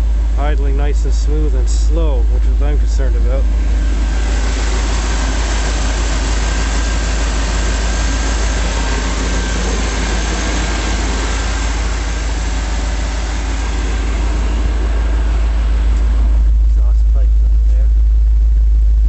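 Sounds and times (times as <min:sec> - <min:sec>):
vee eight engine idling: 0:00.0 - 0:18.2.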